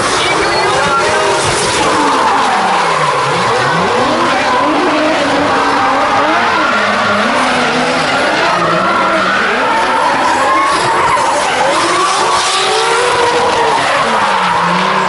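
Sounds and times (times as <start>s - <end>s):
car engines revving: 0.0s - 15.0s
tyres skidding and squealing: 0.0s - 15.0s.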